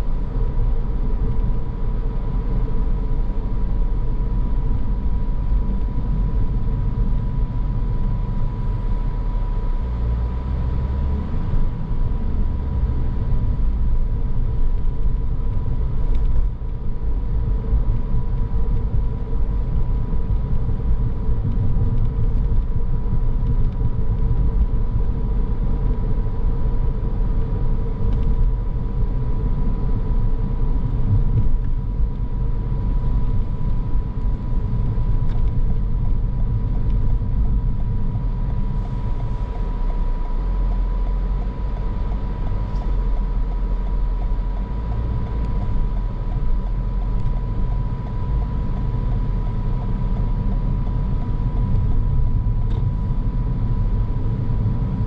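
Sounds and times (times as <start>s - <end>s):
faint steady whine: 0.0s - 55.0s
tyres and engine rumble: 0.0s - 55.0s.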